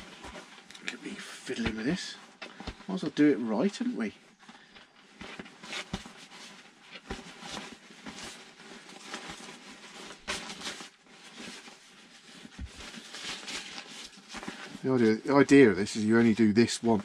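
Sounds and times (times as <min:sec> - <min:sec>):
rucksack fabric rustling: 0:00.0 - 0:17.0.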